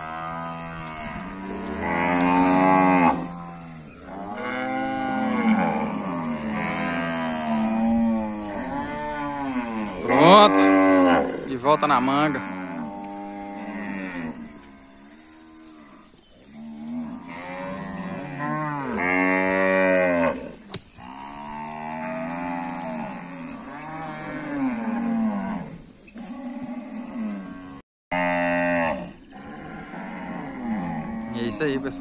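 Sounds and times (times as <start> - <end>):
cattle mooing: 0.0 - 32.0.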